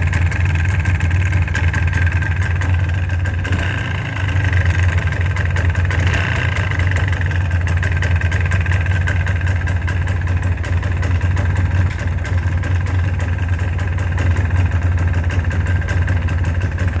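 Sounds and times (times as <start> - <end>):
engine idling: 0.0 - 17.0
rapid engine knock: 0.0 - 17.0.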